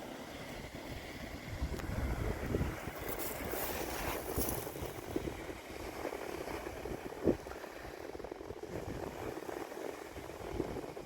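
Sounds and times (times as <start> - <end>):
wind buffeting microphone: 0.6 - 11.0.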